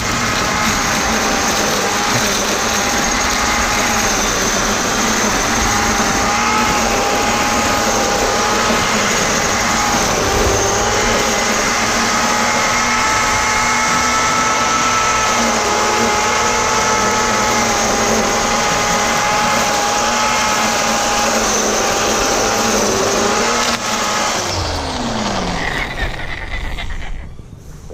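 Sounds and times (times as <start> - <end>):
electric string trimmer whining: 0.0 - 27.9
motor winding down: 0.0 - 27.9.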